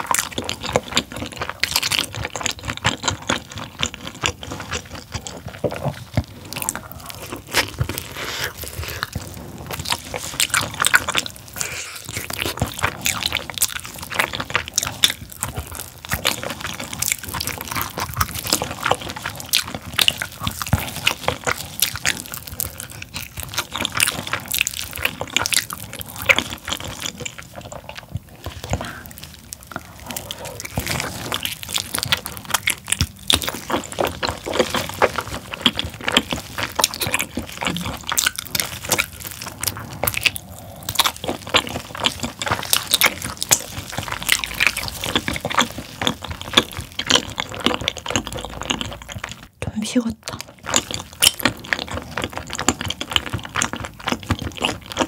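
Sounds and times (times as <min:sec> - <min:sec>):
wet chewing mouth sounds: 0:00.0 - 0:55.0.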